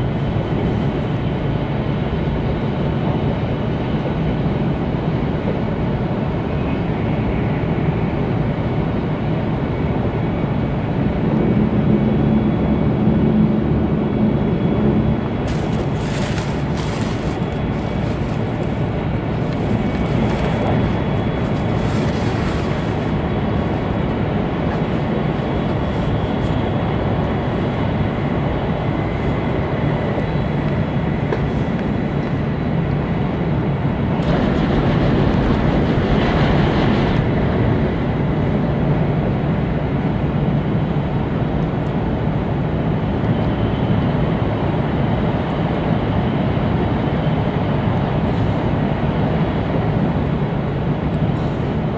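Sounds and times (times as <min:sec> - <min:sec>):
train cabin rumble and hiss: 0:00.0 - 0:51.9.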